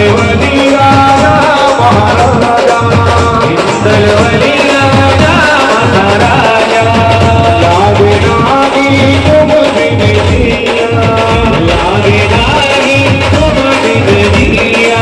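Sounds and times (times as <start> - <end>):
loud drum beat: 0.0 - 15.0.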